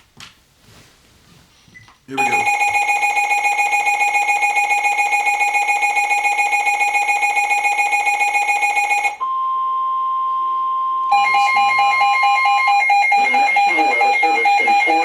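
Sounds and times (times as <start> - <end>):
beeping alarm: 2.2 - 15.0
pulsing two-tone alarm: 2.2 - 15.0
steady single-pitch alarm tone: 2.2 - 15.0.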